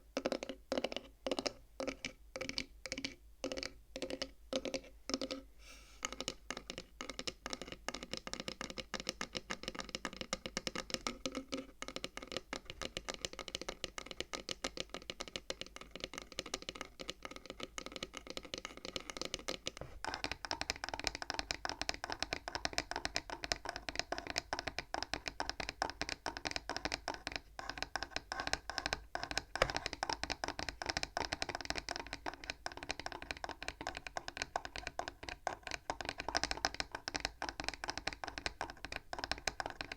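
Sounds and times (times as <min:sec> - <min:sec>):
fingers tapping on wooden abacus: 0:00.2 - 0:39.9.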